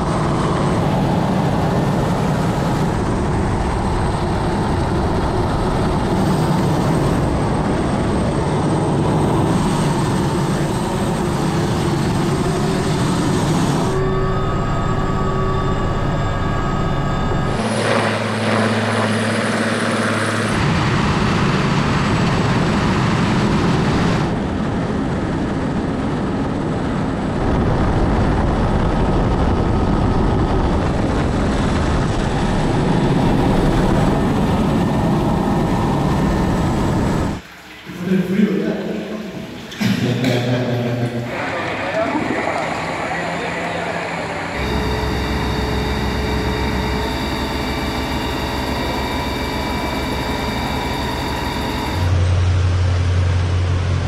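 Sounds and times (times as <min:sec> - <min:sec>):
helicopter rotor and engine: 0:00.0 - 0:54.0
steady engine whine: 0:00.0 - 0:54.0.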